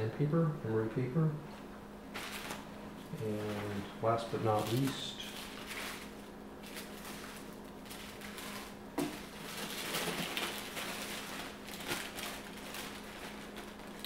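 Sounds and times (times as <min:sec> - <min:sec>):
plastic bag crinkling and rustling: 0:02.1 - 0:14.0.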